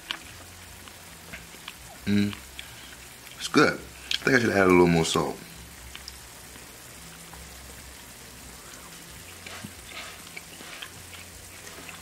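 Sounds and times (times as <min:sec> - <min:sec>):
low hiss and hum: 0:00.0 - 0:12.0.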